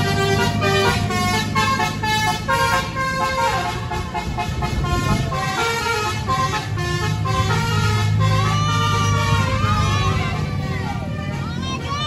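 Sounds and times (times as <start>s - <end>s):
bus engine running: 0.0s - 12.0s
multi-tone bus horn melody: 0.0s - 12.0s.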